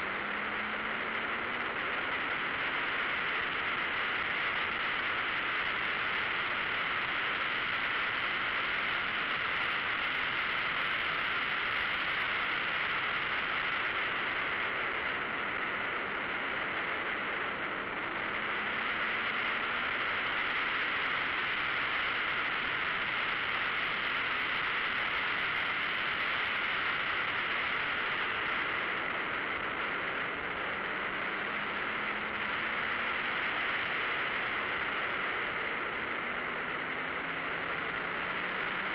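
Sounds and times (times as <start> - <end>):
road noise: 0.0 - 38.9.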